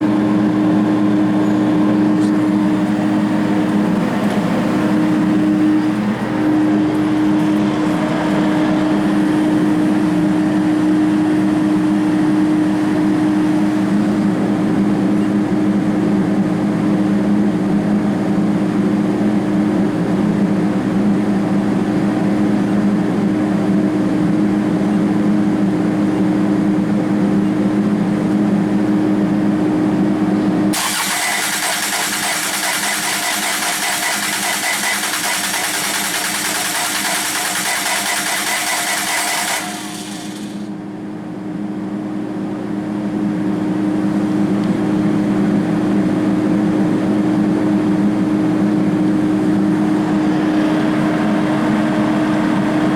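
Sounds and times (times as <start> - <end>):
diesel engine running steadily: 0.0 - 52.9.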